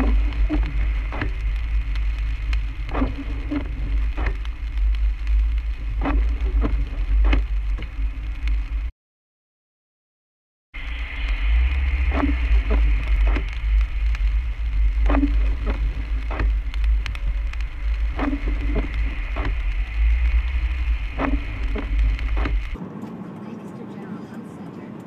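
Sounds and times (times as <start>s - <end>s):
tyres rumbling on wet road: 0.0s - 8.9s, 10.8s - 25.0s
windshield wipers sweeping: 0.0s - 8.9s, 10.8s - 23.6s.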